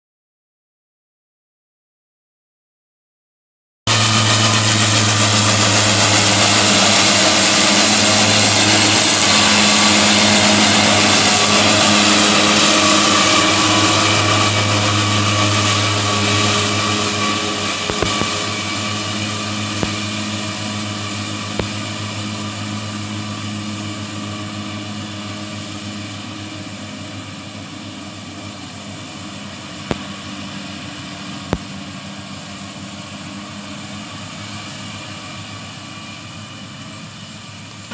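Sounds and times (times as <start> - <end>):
mower whirring hiss: 3.9 - 37.9
tractor engine droning: 3.9 - 37.9.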